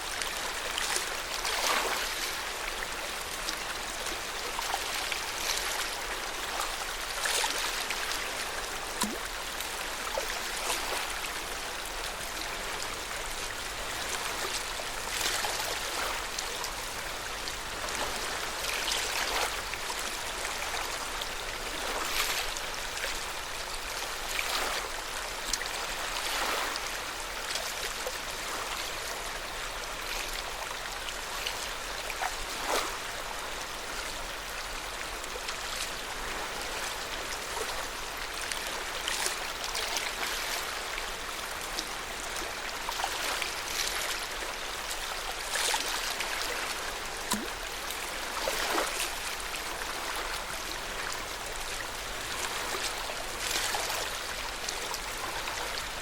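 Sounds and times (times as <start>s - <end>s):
small waves lapping at shore: 0.0s - 56.0s.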